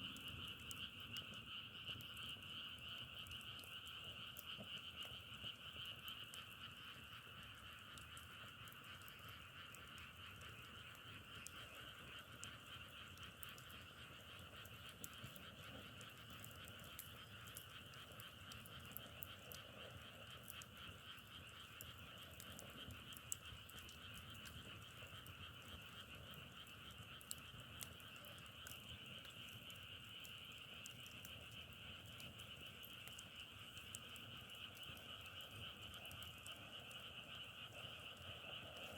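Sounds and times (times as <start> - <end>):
chorus of frogs calling: 0.1 - 38.9
faint clicks: 0.1 - 38.9.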